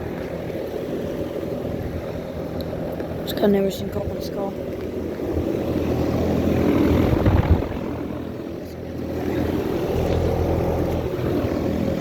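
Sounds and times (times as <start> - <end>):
condenser fan air rush: 0.0 - 12.0.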